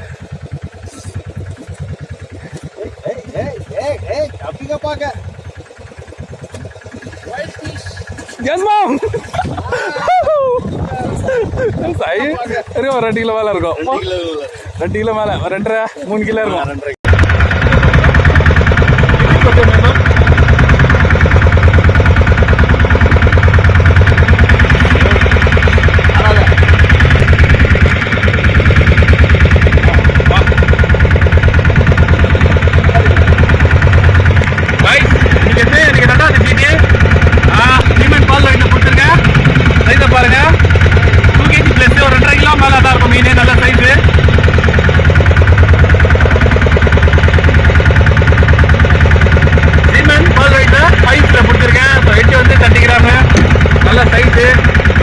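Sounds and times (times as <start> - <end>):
boat engine chugging: 0.0 - 55.0.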